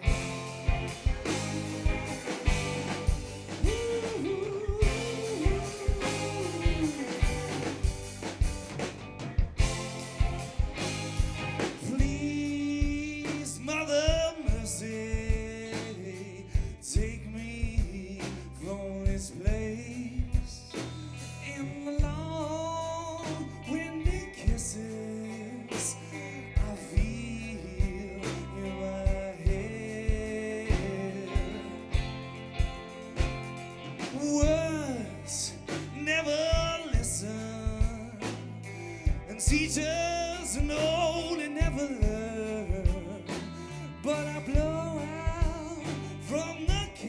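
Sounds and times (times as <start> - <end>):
lead vocals: 0.0 - 8.7, 9.6 - 33.1, 33.7 - 47.0
rock band playing: 0.0 - 47.0.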